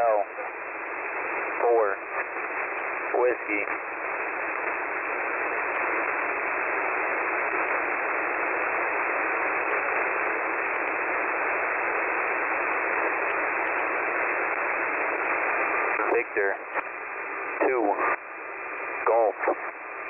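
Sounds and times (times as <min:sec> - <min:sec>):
shortwave radio static hiss: 0:00.0 - 0:20.0.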